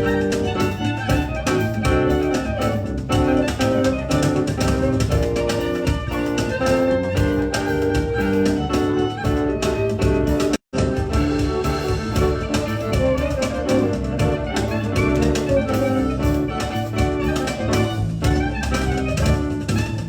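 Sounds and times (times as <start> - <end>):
live band music: 0.0 - 20.0.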